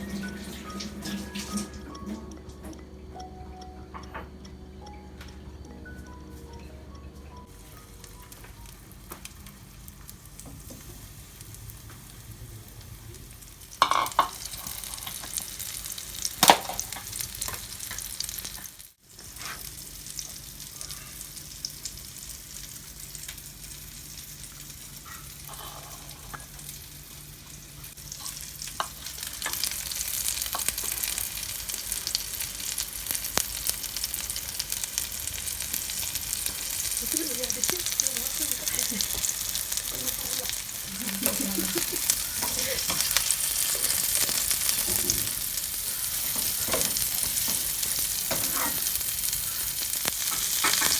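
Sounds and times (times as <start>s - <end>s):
food sizzling in hot oil: 0.0s - 2.6s, 7.4s - 50.9s.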